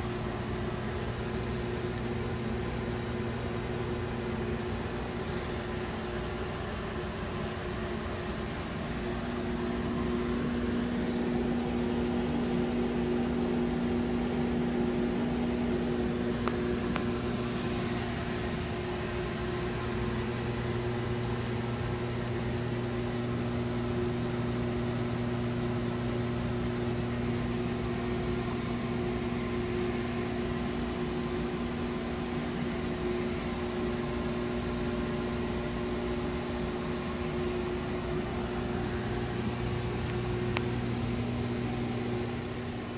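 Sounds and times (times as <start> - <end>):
aquarium pumps humming: 0.0 - 42.9.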